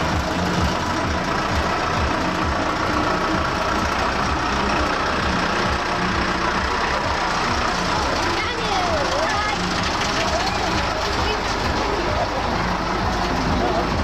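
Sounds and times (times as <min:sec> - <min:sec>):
lorry engine running: 0:00.0 - 0:14.0.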